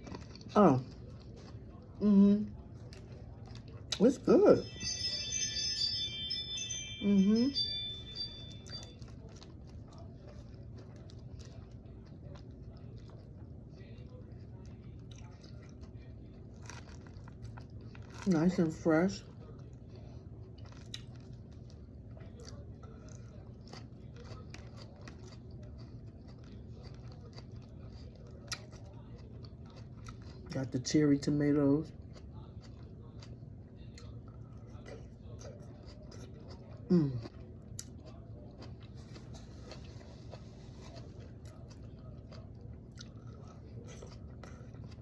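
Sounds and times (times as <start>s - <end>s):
person chewing crisp salad: 0.0s - 4.8s, 7.6s - 45.0s
low steady hum: 0.0s - 45.0s.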